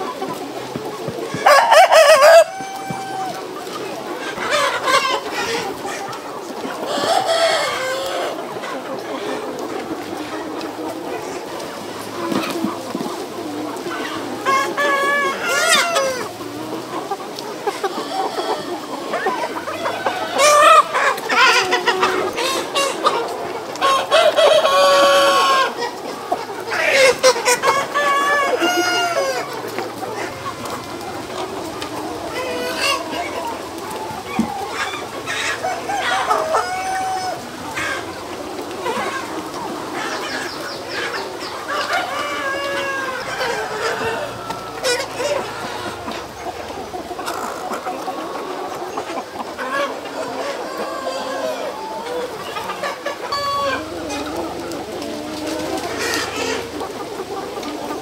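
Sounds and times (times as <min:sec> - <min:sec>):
chickens clucking and calling: 0:00.0 - 0:58.0.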